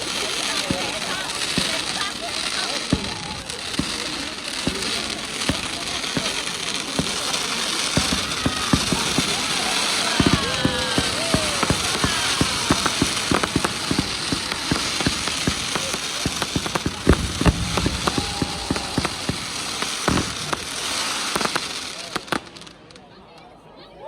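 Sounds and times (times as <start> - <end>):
fireworks crackling and banging: 0.0 - 23.3.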